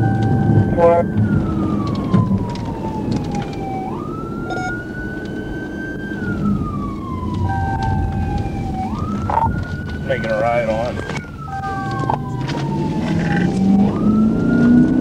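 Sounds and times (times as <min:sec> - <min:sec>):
car engine and tyres rumbling: 0:00.0 - 0:15.0
police siren wailing: 0:00.0 - 0:15.0.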